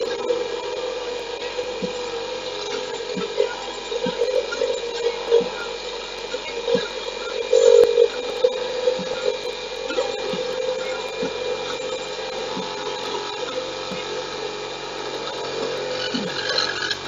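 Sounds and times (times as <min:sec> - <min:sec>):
saw cutting wood: 0:00.0 - 0:17.0.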